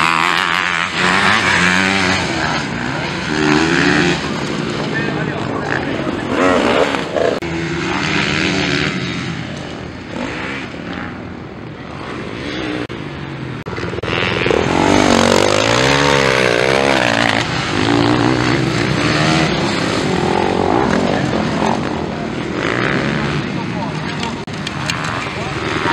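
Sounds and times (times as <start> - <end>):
dirt bike engines revving: 0.0 - 25.9.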